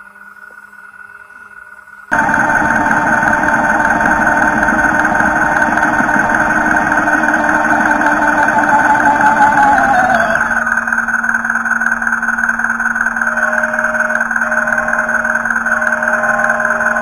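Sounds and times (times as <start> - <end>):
toy truck engine idling: 2.1 - 17.0.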